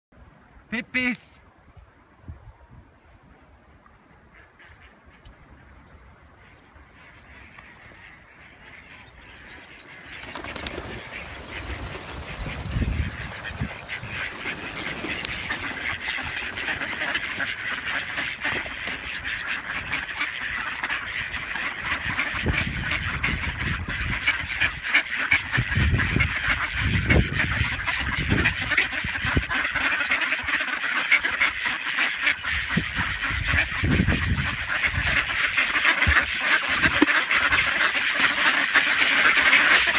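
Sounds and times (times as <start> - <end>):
ducks quacking: 4.2 - 39.9.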